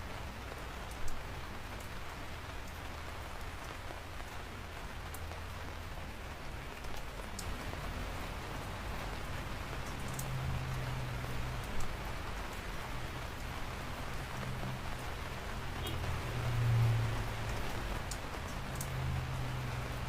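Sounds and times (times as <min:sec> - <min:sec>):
steady rain hiss: 0:00.0 - 0:20.0
raindrop ticks: 0:00.2 - 0:20.0.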